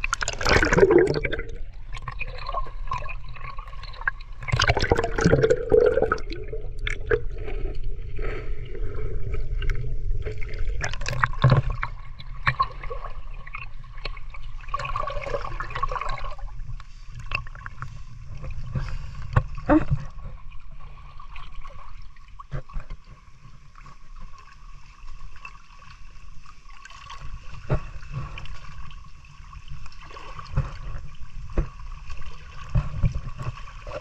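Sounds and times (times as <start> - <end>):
water sloshing and gurgling: 0.0 - 34.0
water splashing: 0.0 - 34.0.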